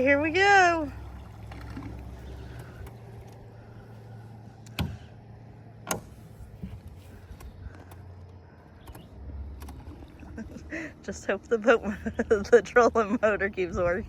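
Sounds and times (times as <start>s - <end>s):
electric boat motor humming: 0.0s - 14.0s.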